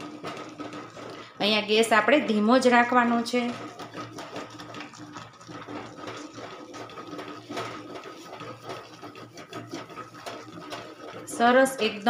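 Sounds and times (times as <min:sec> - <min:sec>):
rolling pin scraping metal pot: 0:00.0 - 0:12.0.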